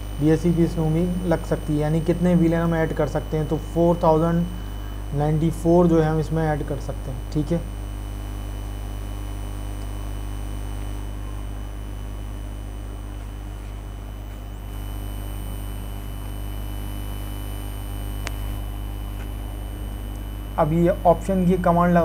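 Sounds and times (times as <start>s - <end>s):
low electrical hum with hiss: 0.0s - 22.0s.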